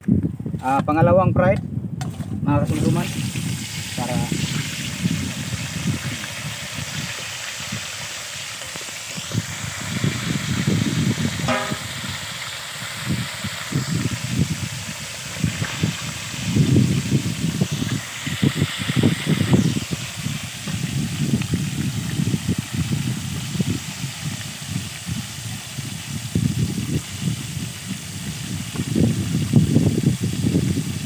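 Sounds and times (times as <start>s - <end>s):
oil bubbling and sizzling: 2.7s - 31.0s.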